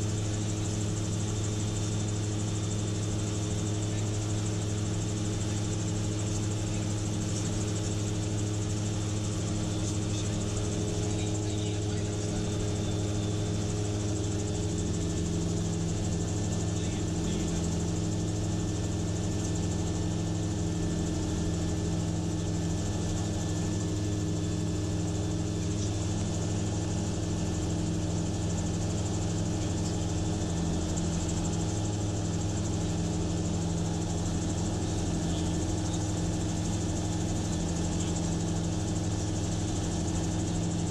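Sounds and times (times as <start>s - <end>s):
aircraft engine and propeller droning: 0.0s - 40.9s.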